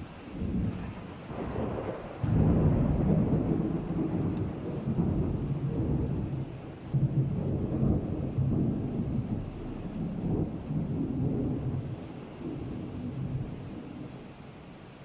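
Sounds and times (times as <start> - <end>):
low rolling thunder: 0.0 - 14.8
rain hissing: 0.0 - 15.0.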